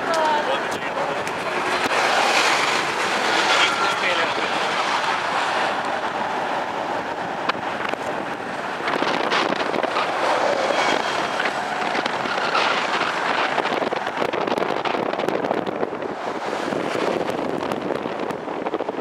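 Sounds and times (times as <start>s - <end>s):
road traffic driving past: 0.0s - 18.9s
wind buffeting microphone: 0.0s - 19.0s.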